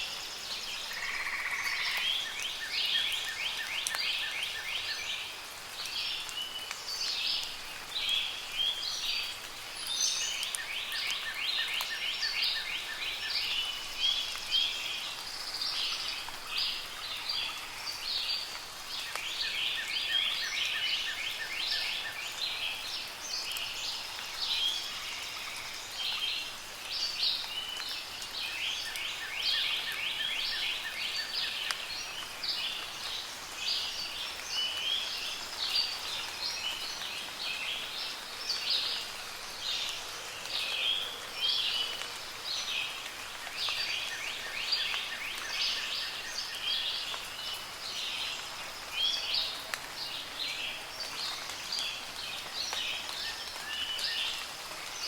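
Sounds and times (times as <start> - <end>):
light rain hiss: 0.0 - 55.0
songbirds chirping: 0.0 - 55.0.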